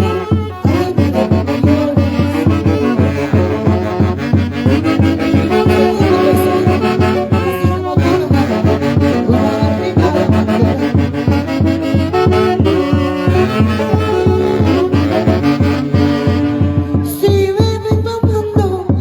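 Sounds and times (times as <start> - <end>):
horns playing melody: 0.0 - 17.6
thumping bass beat: 0.0 - 19.0.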